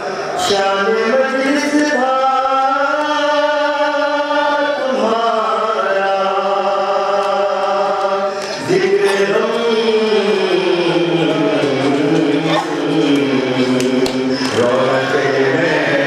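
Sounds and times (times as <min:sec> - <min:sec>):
person chanting long sung notes: 0:00.0 - 0:16.0.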